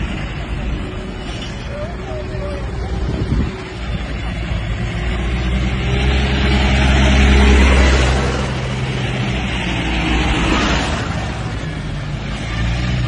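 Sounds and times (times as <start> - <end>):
heavy vehicle engine droning: 0.0 - 13.0.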